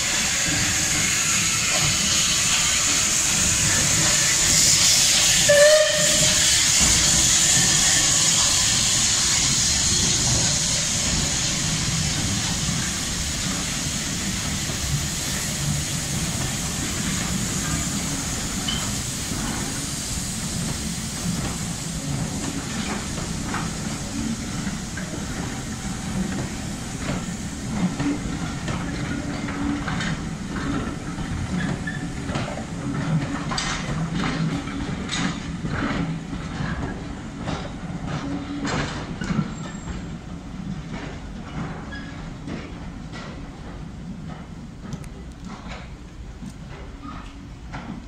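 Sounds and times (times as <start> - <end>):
wheels clanking over rail joints: 9.4 - 48.0.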